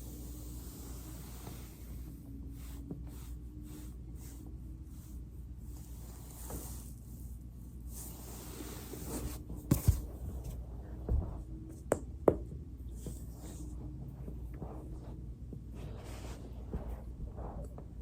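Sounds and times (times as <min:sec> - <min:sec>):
rubbing and rustling on foam roller: 0:00.0 - 0:11.7, 0:12.8 - 0:18.0.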